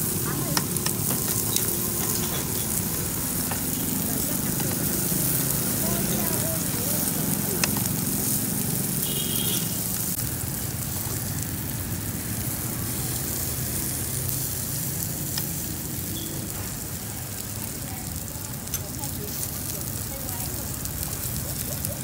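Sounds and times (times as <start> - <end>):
meat sizzling on a grill: 0.0 - 22.0.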